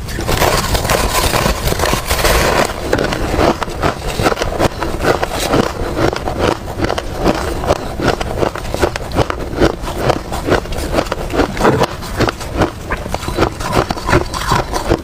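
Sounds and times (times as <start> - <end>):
ice crunching being chewed: 0.0 - 15.0.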